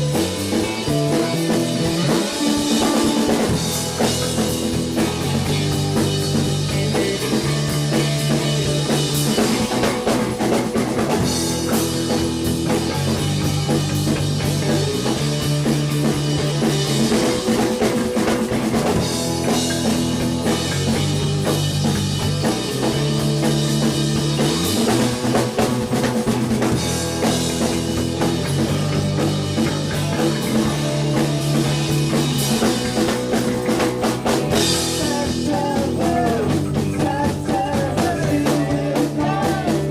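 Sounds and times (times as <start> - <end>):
bass line: 0.0 - 39.9
drum kit beat: 0.0 - 39.9
guitar: 0.0 - 39.9.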